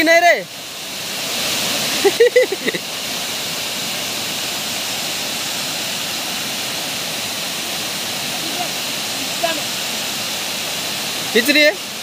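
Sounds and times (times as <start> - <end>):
water pouring over dam spillway: 0.0 - 12.0.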